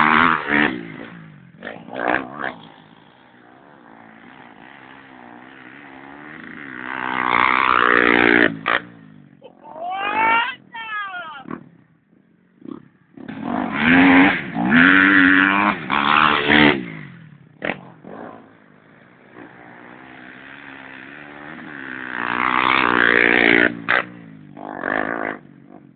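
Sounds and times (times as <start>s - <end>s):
dirt bike engine revving: 0.0s - 11.9s, 12.5s - 25.8s
motorbike passing close: 0.0s - 25.9s.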